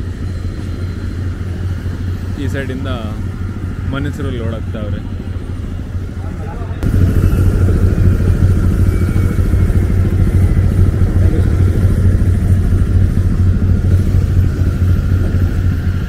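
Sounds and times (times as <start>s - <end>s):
low machine drone: 0.0s - 16.0s.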